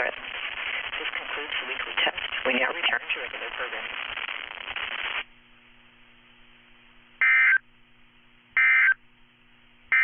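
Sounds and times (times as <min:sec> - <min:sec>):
faint radio hum: 0:00.0 - 0:10.0.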